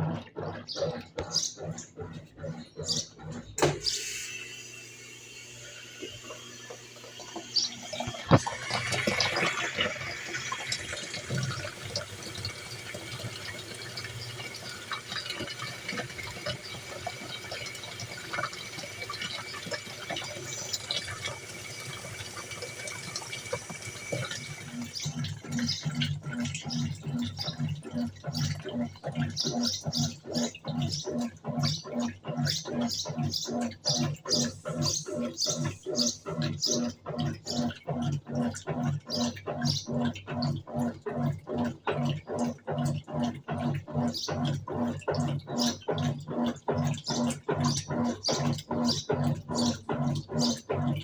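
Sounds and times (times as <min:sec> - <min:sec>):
water pouring into washing machine: 0:00.0 - 0:51.0.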